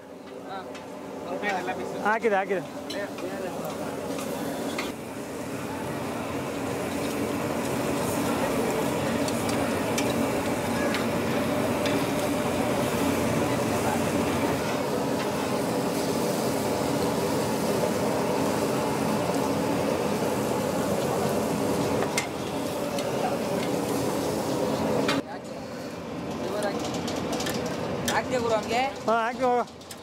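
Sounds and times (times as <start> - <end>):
meat sizzling on charcoal grill: 0.0 - 30.0.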